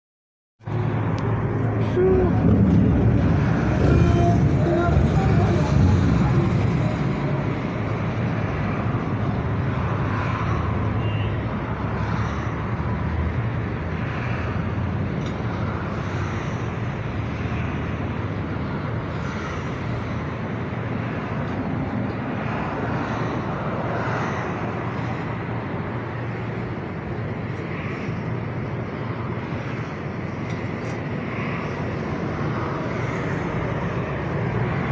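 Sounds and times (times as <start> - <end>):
road traffic rushing: 0.6 - 34.9.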